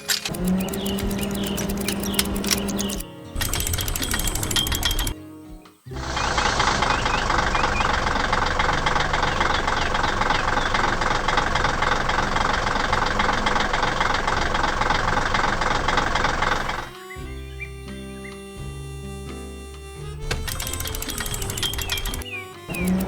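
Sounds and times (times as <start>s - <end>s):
machine engine rattling: 0.0s - 5.2s, 6.0s - 17.0s, 20.3s - 23.0s.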